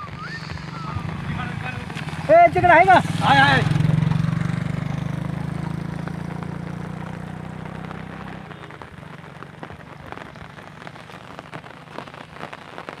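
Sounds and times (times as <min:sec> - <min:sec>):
rain falling: 0:00.0 - 0:13.0
raindrops striking close by: 0:00.0 - 0:13.0.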